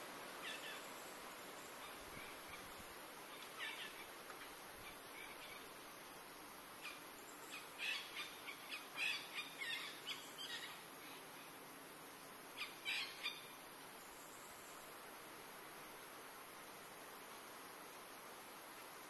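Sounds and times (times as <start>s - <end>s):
insects hissing: 0.0s - 19.0s.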